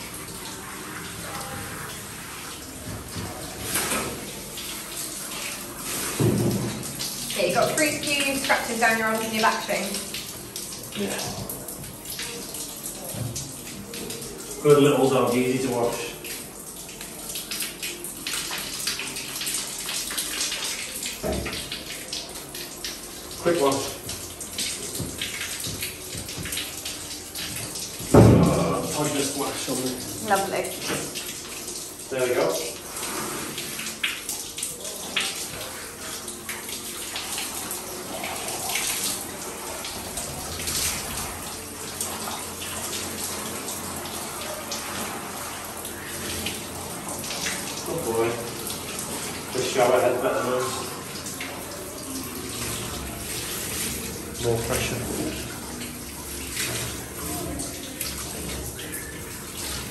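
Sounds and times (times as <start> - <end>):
water splashing into metal tub: 0.0 - 59.9.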